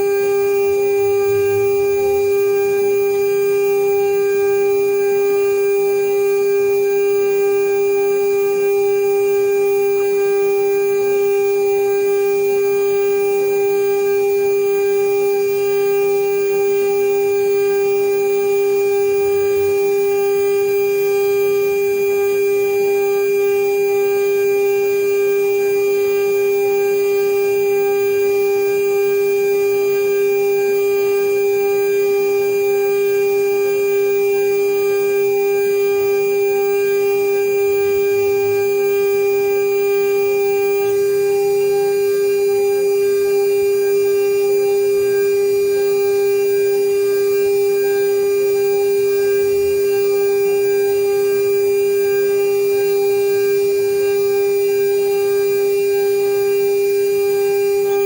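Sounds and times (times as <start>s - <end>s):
router spindle whining: 0.0s - 58.0s.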